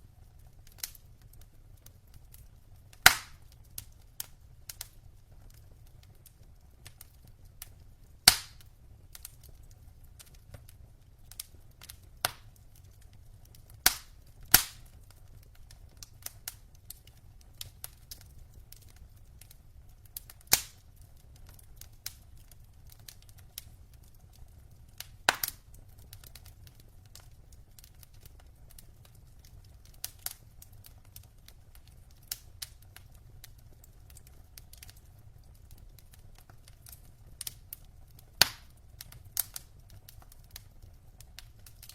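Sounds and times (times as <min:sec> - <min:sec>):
logs crackling and popping in fireplace: 0:00.0 - 0:41.9.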